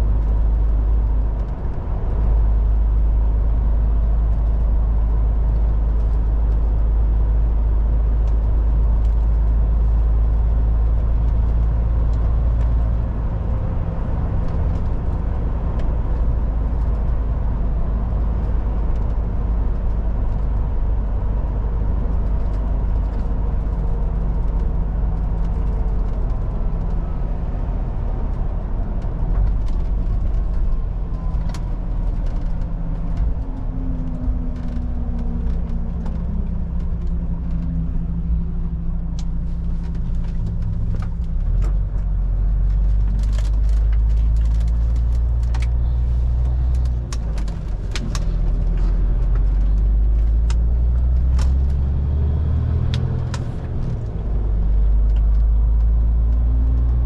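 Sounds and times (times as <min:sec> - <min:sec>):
truck diesel engine droning: 0:00.0 - 0:57.0
tyre and road noise: 0:00.0 - 0:57.0.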